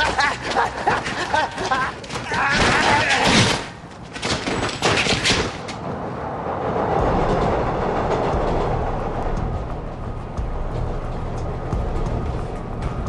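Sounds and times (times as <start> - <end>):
steady rumbling noise: 0.0 - 13.0.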